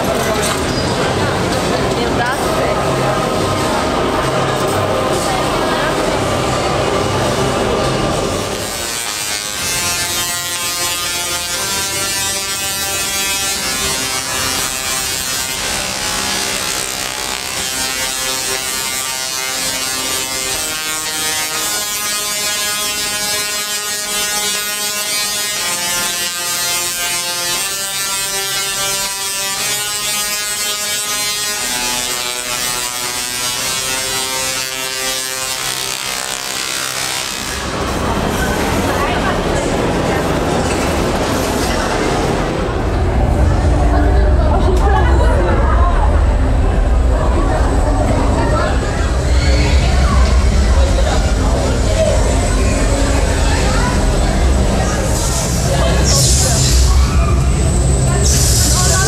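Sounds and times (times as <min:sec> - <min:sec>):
buzzy electronic music chords: 0:00.0 - 0:59.0.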